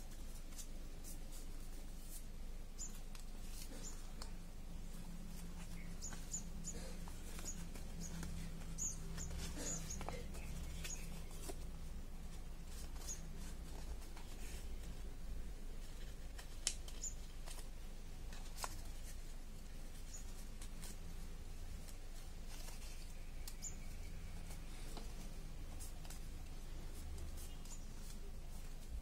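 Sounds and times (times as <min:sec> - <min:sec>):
steady low hum: 0:00.0 - 0:29.0
paper crinkling and crackling: 0:02.9 - 0:29.0.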